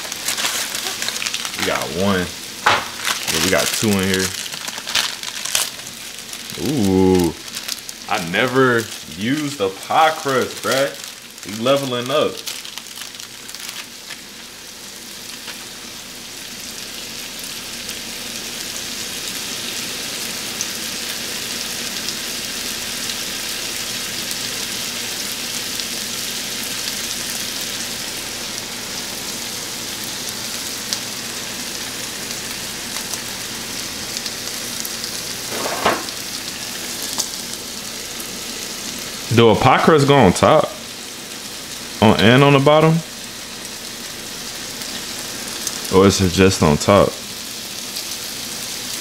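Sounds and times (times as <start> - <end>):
chicken sizzling in a frying pan: 0.0 - 49.0.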